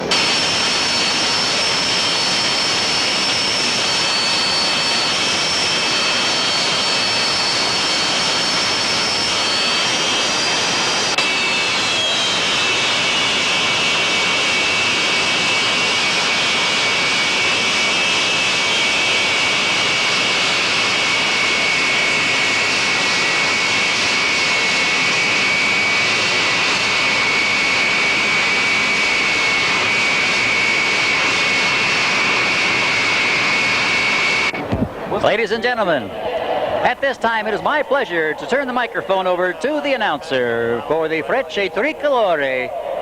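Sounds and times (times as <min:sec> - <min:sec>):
jet engines whining: 0:00.0 - 0:43.0.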